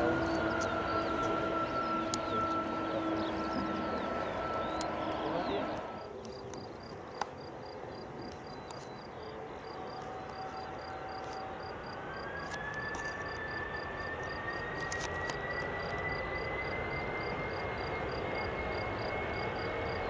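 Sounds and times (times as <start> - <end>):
distant jet engines running: 0.0 - 20.0.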